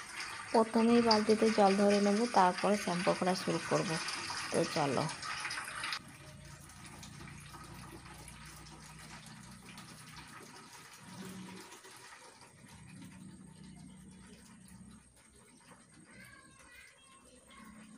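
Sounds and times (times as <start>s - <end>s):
tap water running into bucket: 0.0s - 17.9s.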